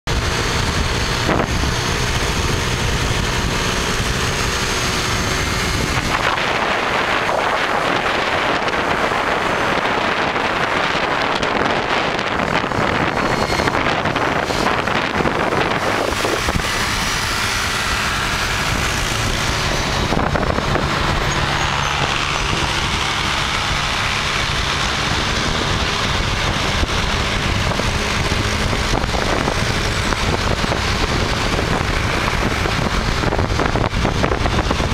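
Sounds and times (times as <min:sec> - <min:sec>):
road traffic: 0:00.0 - 0:34.9
wind rush on microphone: 0:00.1 - 0:34.9.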